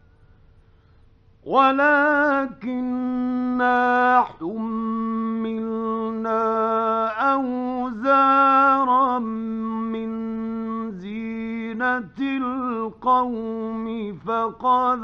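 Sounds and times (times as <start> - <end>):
faint background hiss: 0.0 - 15.0
man chanting melodically: 1.5 - 15.0.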